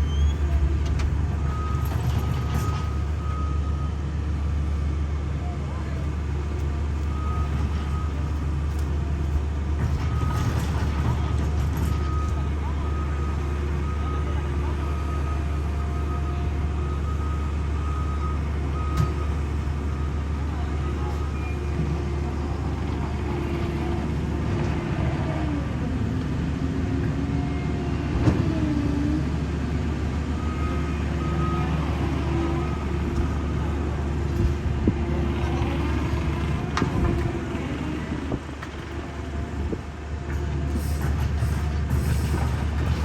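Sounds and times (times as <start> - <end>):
heavy machinery engines rumbling: 0.0 - 43.0.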